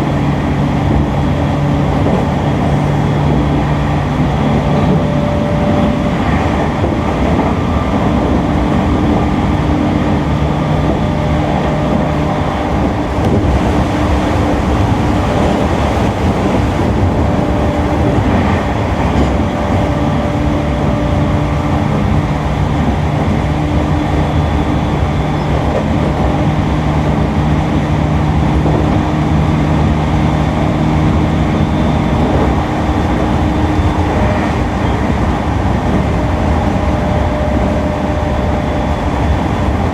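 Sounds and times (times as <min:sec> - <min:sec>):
train motor hum: 0:00.0 - 0:39.9
wheel and rail noise: 0:00.0 - 0:39.9.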